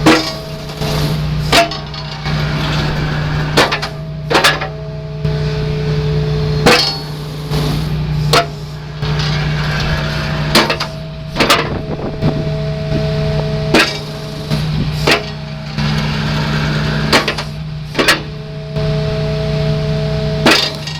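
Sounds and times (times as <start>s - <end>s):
excavator engine running: 0.0s - 20.9s
sharp metal clanks: 0.0s - 20.9s
steady hydraulic whine: 0.0s - 20.9s.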